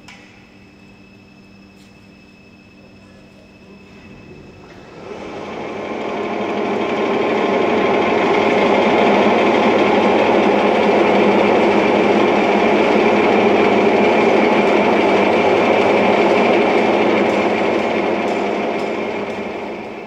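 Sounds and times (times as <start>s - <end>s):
machine whirring: 0.0s - 20.0s.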